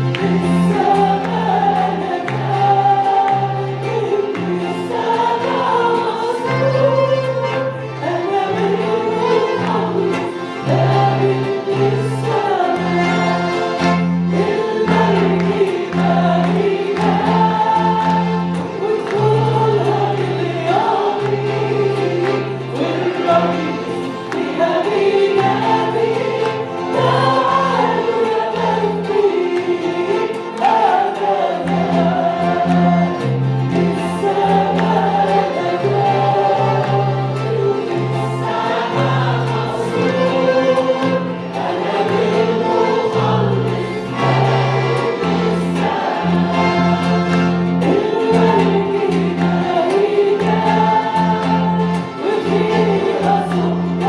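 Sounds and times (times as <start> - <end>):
group singing worship song: 0.0 - 54.0
instrumental accompaniment: 0.0 - 54.0.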